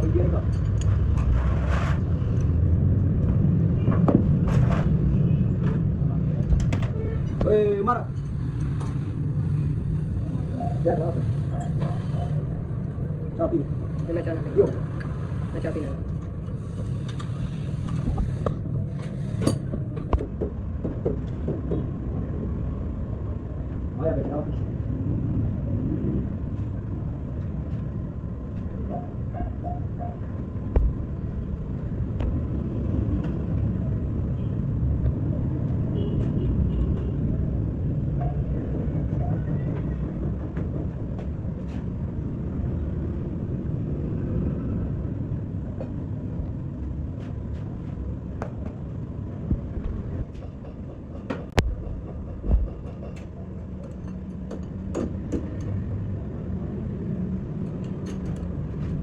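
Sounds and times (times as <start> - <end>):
vehicle low rumble: 0.0 - 59.0.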